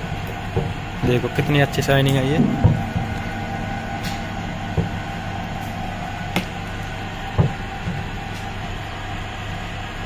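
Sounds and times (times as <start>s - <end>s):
clay plate machine motor humming: 0.0s - 10.0s.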